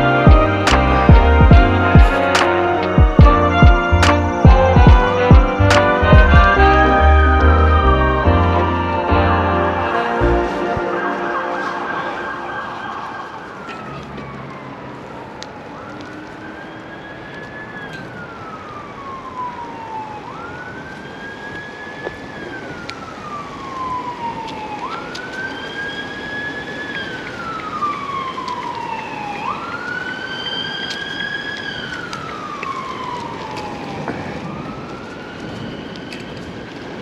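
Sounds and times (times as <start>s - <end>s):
background rushing noise: 0.0s - 37.0s
emergency siren wailing: 0.0s - 37.0s.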